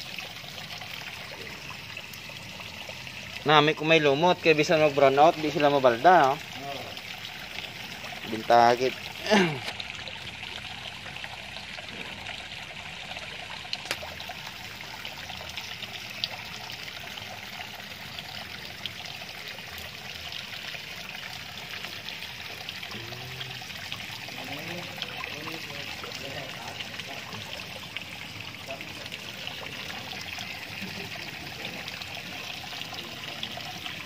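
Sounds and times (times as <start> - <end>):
small water drips: 0.0 - 34.0
water trickling into pond: 0.0 - 34.0.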